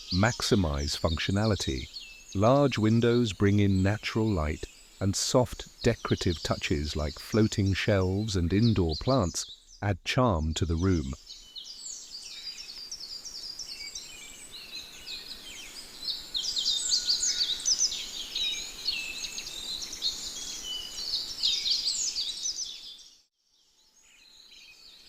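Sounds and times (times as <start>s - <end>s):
small birds chirping and twittering: 0.0s - 25.0s.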